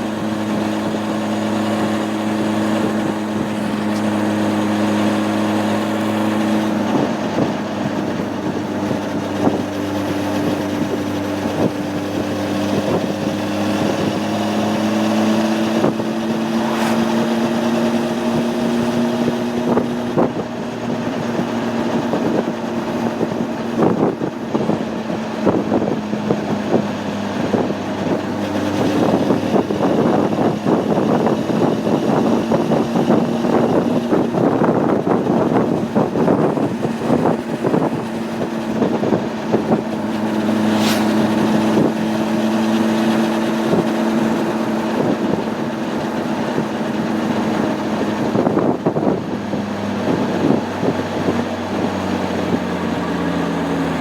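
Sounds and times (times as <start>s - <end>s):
motorcycle engine humming: 0.0s - 54.0s
wind rushing over microphone: 0.0s - 54.0s.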